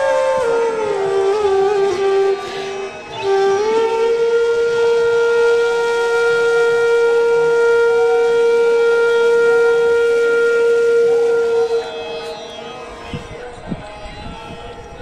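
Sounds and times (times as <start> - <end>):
long held instrumental note: 0.0 - 15.0.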